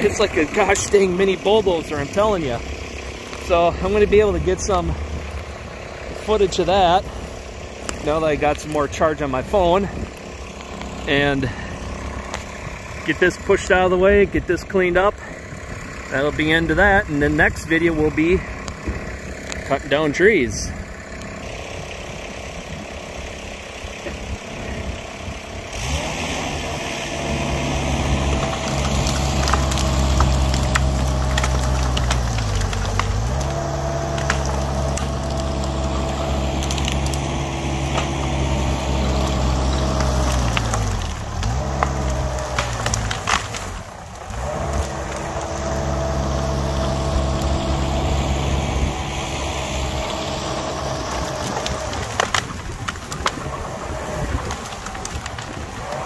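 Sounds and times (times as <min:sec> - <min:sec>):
branches cracking and snapping: 0:00.0 - 0:56.0
skid-steer engine revving: 0:00.0 - 0:56.0.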